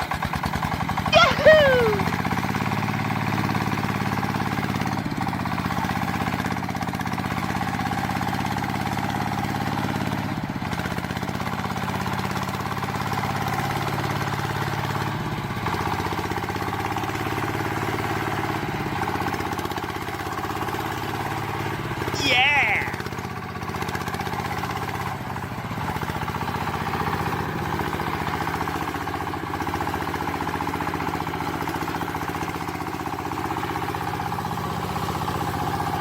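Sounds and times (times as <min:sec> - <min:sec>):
small engine idling: 0:00.0 - 0:36.0.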